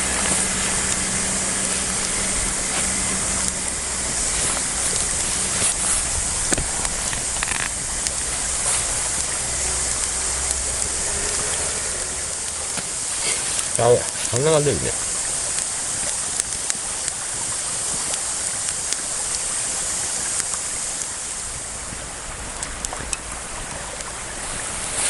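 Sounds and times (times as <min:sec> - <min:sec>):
campfire hissing: 0:00.0 - 0:25.0
fire crackles and pops: 0:00.0 - 0:25.0.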